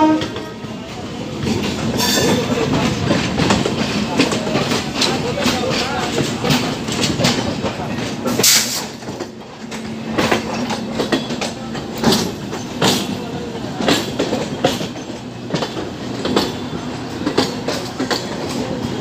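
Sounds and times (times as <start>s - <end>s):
train rumble and low hum: 0.0s - 19.0s
train wheels clattering over rail joints: 0.2s - 19.0s.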